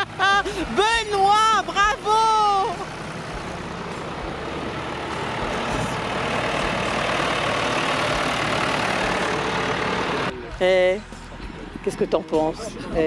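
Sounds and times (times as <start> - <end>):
tractor diesel engines passing: 0.0 - 13.0.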